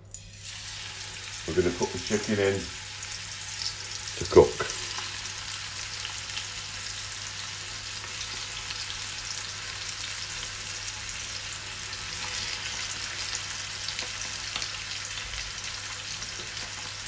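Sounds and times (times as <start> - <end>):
chicken sizzling in a pan: 0.0 - 17.0.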